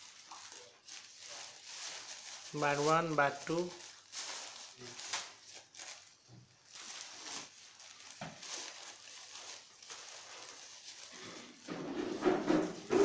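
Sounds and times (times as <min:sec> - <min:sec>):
plastic bags rustling and crinkling: 0:00.0 - 0:13.0.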